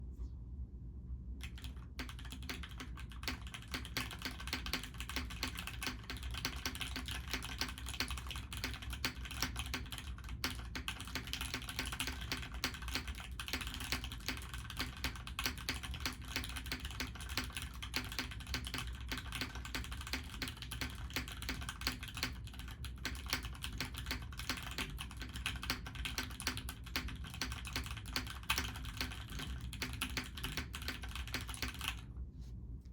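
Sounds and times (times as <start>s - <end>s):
mechanical keyboard typing: 1.4s - 32.1s.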